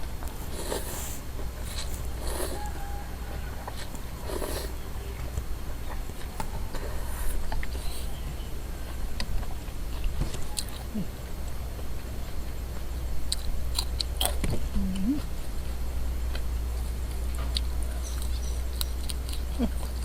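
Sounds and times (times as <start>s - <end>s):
low steady hum: 0.0s - 20.0s
person chewing food: 0.0s - 20.0s.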